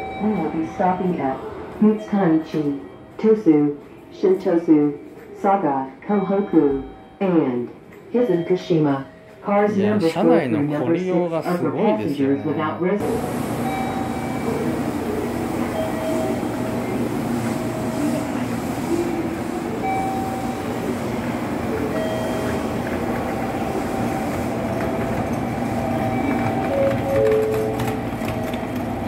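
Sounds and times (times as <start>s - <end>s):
stationary electric train humming: 0.0s - 29.0s.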